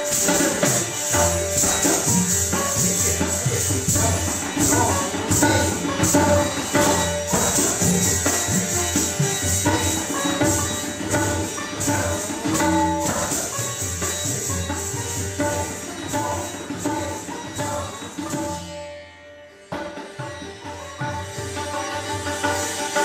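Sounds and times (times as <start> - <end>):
hand drums: 0.0 - 18.9, 19.7 - 23.0
plucked string melody: 0.0 - 19.1
bells jingling: 0.1 - 18.8.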